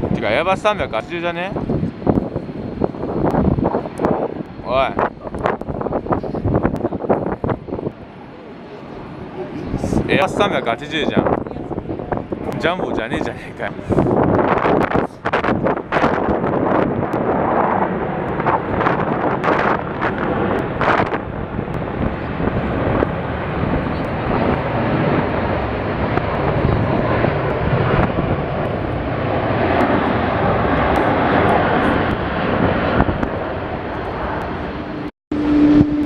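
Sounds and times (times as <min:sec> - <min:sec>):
wind noise on microphone: 0:00.0 - 0:08.2, 0:08.9 - 0:36.0
jet airliner engines passing: 0:00.0 - 0:36.0.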